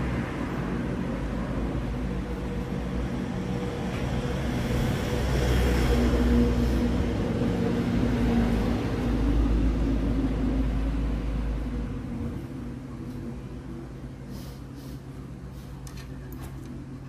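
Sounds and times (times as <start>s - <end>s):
continuous hum: 0.0s - 17.0s.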